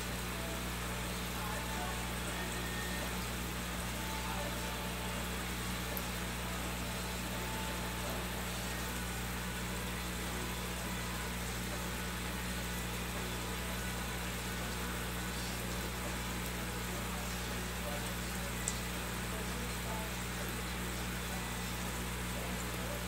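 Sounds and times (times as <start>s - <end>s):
aquarium air pump humming: 0.0s - 23.0s.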